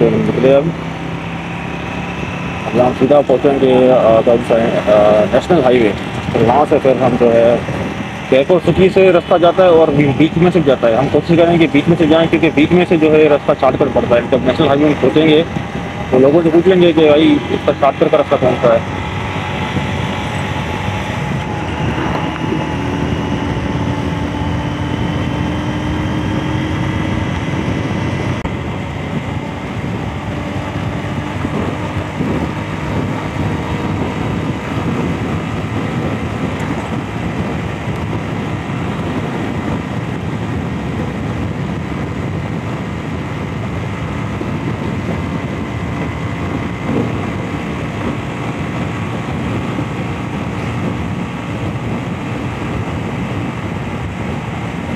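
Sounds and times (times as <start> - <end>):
motorcycle engine running: 0.0 - 54.9
road rush: 0.0 - 54.9
wind noise: 0.0 - 54.9.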